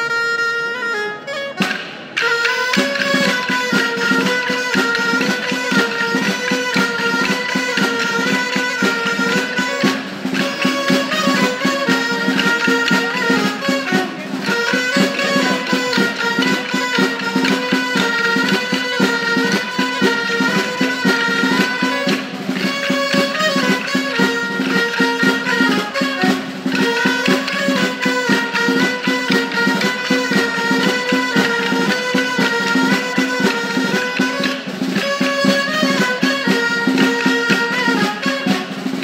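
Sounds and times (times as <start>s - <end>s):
folk dance wind melody: 0.0s - 39.0s
wooden sticks clacking: 1.6s - 38.7s.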